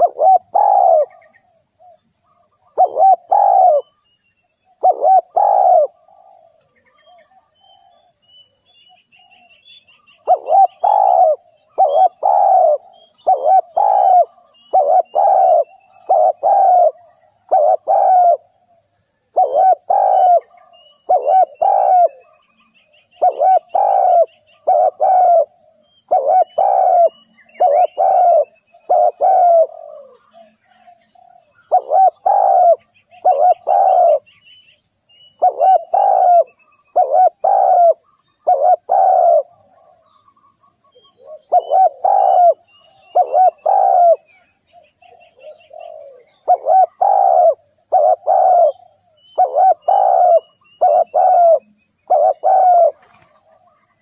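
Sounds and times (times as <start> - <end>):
dove cooing: 0.0 - 2.0, 2.6 - 4.0, 4.7 - 8.1, 9.3 - 18.7, 19.3 - 22.5, 23.1 - 34.3, 35.4 - 40.2, 40.8 - 54.0.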